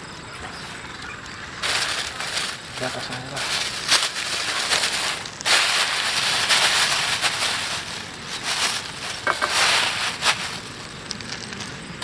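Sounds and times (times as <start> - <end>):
plastic bag crinkling: 1.6 - 11.8.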